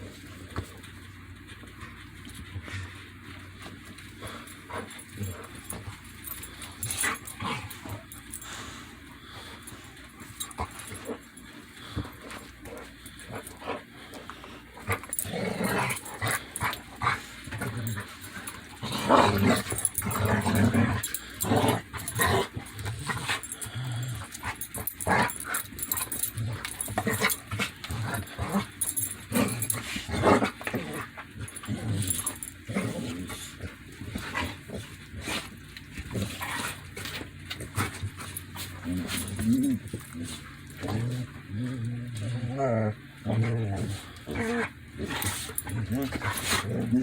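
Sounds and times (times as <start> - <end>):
dogs growling: 1.4 - 47.0.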